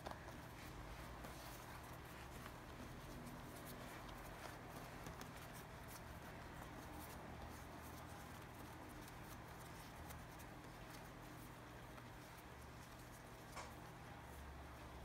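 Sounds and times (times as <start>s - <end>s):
low steady room hum: 0.0s - 15.0s.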